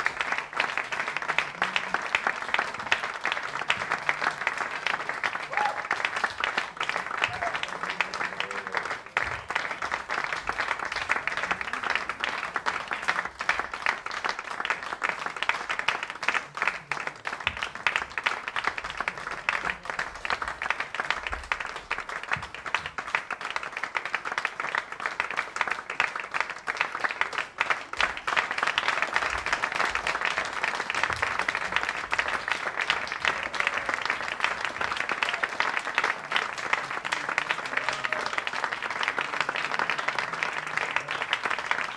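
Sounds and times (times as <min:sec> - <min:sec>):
audience applauding: 0:00.0 - 0:41.9.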